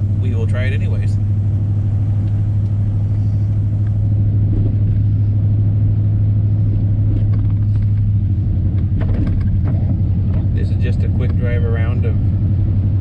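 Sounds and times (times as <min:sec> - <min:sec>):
pickup engine and road noise: 0:00.0 - 0:13.0.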